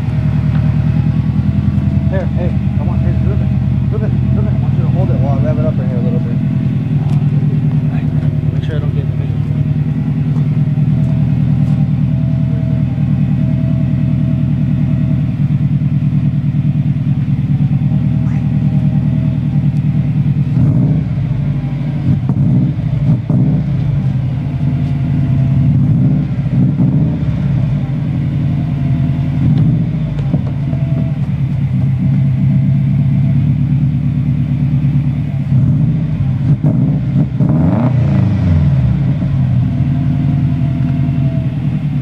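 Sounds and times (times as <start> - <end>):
engine knocks: 0.0 - 38.2
car engine idling: 0.0 - 42.0.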